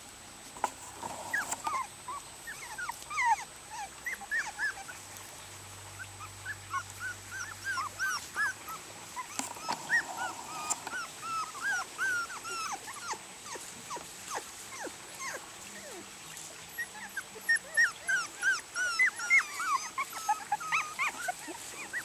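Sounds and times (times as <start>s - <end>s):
puppies whimpering and yipping: 0.6s - 5.3s, 6.0s - 22.0s.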